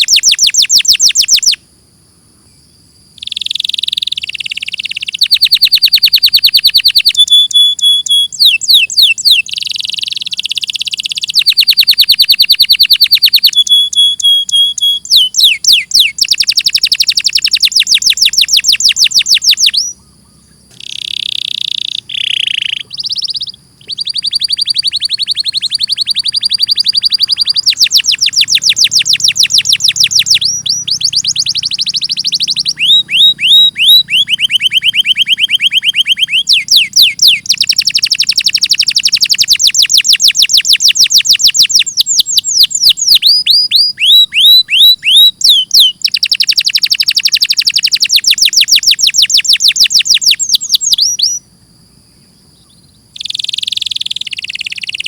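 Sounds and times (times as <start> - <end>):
canary singing trills: 0.0 - 1.6, 2.3 - 55.0.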